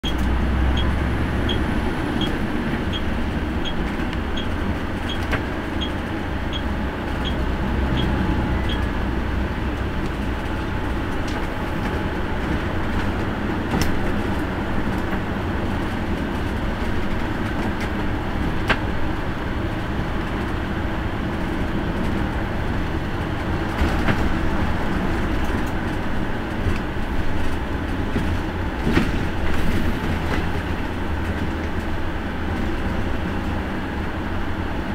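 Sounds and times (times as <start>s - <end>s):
bus engine and road rumble: 0.0s - 34.9s.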